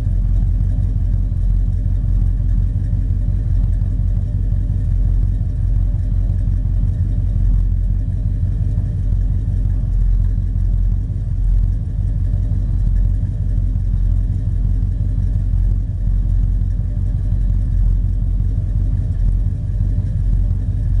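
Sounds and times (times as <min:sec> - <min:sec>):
engine exhaust rumbling: 0:00.0 - 0:21.0.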